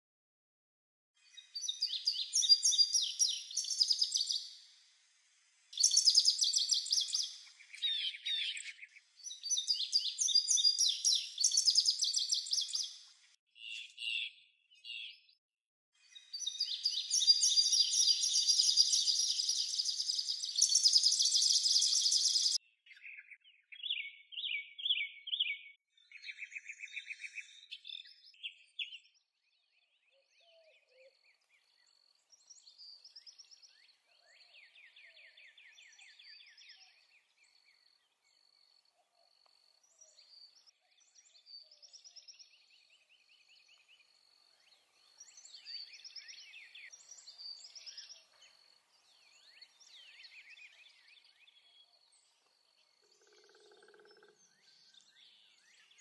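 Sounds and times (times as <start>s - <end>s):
songbirds singing and calling: 1.2s - 5.0s, 5.6s - 15.4s, 16.0s - 56.0s.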